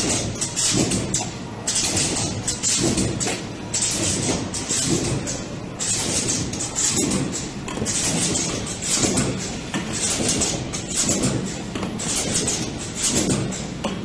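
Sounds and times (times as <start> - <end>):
machine rumble and clatter: 0.0 - 14.0.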